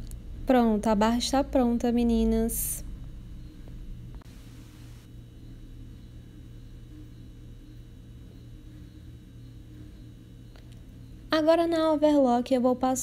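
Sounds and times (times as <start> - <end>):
steady low hum with hiss: 0.0 - 13.0.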